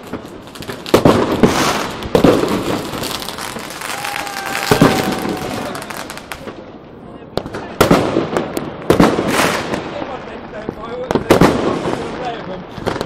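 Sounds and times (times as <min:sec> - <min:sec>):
distant firework crackle: 0:00.0 - 0:13.0
firework bangs: 0:00.0 - 0:13.0.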